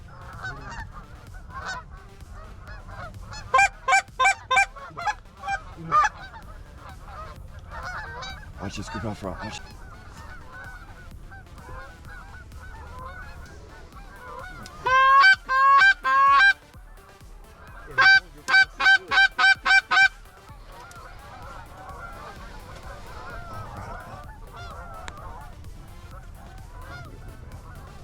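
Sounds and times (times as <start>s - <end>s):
geese honking and clucking: 0.0s - 28.0s
low chatter of many birds: 0.0s - 28.0s.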